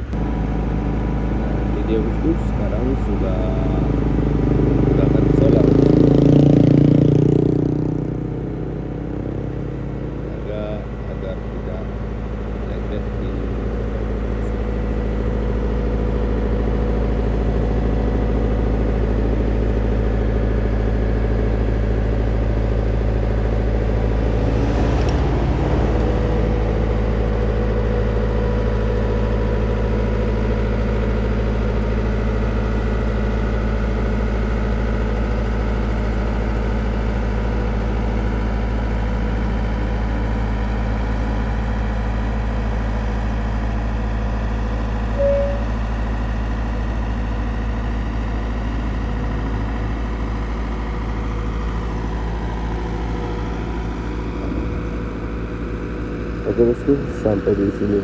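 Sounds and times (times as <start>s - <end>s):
heavy machine engine idling: 0.0s - 58.0s.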